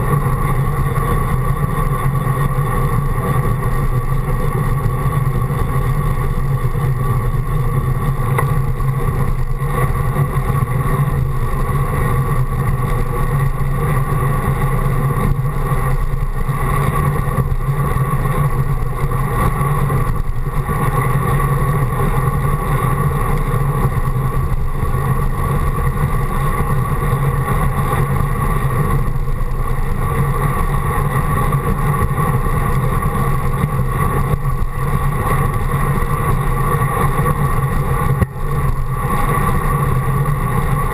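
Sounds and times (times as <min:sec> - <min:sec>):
low hum: 0:00.0 - 0:40.9
wind and road rush: 0:00.0 - 0:40.9.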